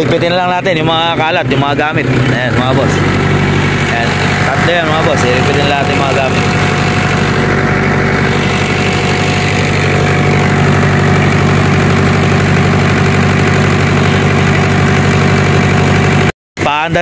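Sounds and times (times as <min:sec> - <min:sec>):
diesel generator running: 0:00.0 - 0:17.0.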